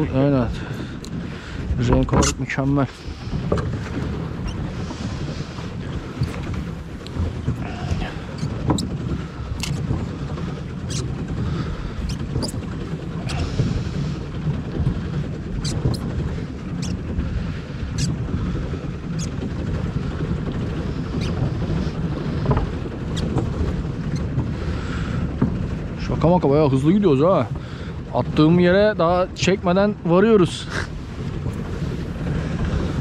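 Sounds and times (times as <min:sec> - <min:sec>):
water rushing against boat hull: 0:00.0 - 0:33.0
wind buffeting microphone: 0:00.0 - 0:33.0.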